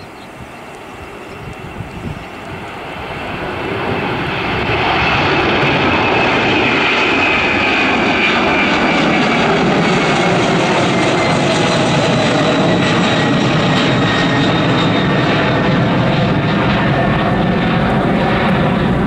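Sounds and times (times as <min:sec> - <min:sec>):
jet engines at takeoff thrust: 0:00.0 - 0:19.0.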